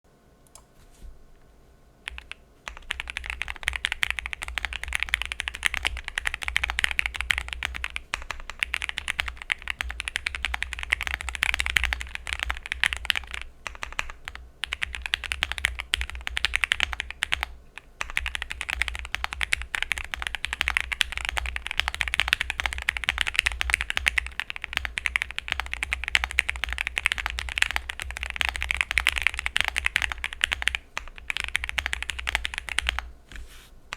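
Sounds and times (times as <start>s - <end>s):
mechanical keyboard typing: 2.1s - 33.1s.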